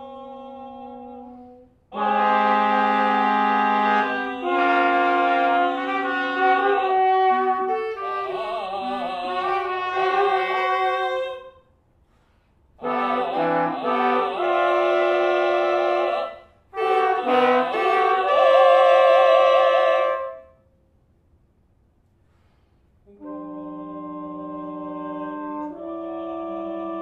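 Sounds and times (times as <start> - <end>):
chamber quartet held chords: 0.0 - 11.6, 12.8 - 20.6, 23.0 - 27.0.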